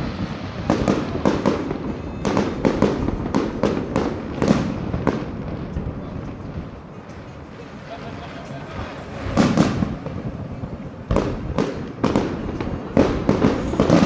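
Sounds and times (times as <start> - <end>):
fireworks popping and banging: 0.0 - 14.0.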